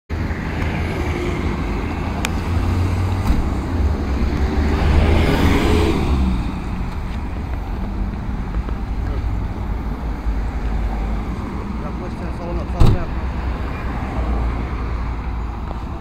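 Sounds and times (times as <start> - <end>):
highway traffic rumble: 0.1 - 16.0
vehicle passing: 0.3 - 15.4.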